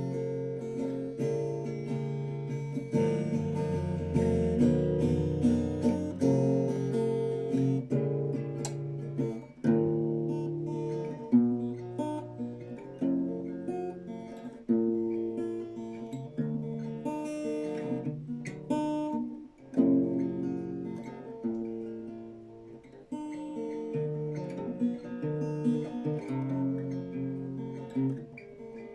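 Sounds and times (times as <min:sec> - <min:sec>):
acoustic guitar playing chords: 0:00.0 - 0:28.9.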